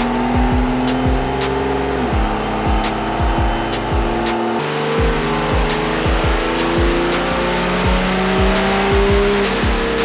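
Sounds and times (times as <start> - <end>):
diesel engine under full load: 0.0 - 10.0
music with a steady beat: 0.0 - 10.0.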